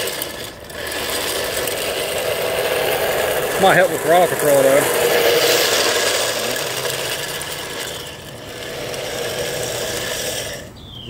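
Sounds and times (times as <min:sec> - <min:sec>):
plastic tyres scrubbing on asphalt: 0:00.0 - 0:11.0
toy car motor whirring: 0:00.0 - 0:11.0.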